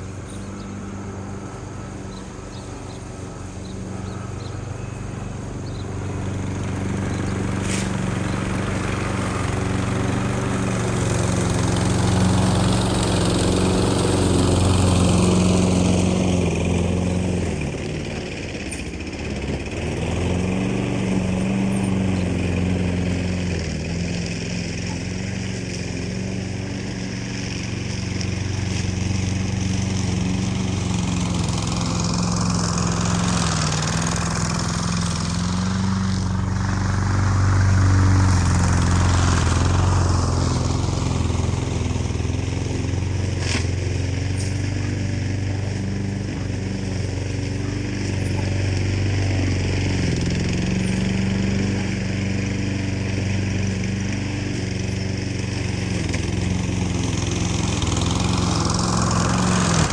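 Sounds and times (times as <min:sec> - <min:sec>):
small engine humming: 0:00.0 - 0:59.9.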